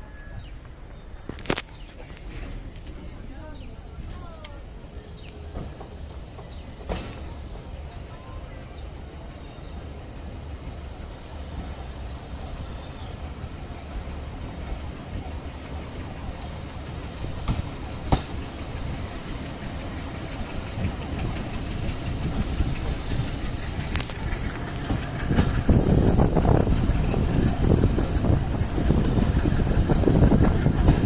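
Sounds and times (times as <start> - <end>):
train wheels rumbling on rail: 0.1 - 31.0.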